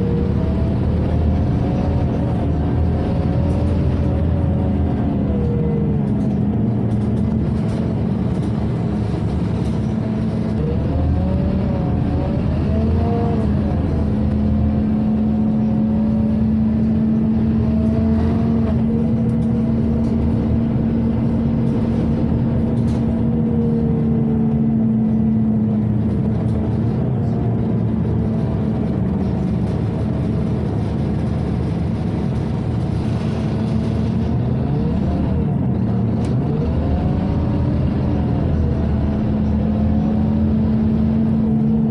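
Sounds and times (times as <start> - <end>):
bus engine: 0.0 - 41.9.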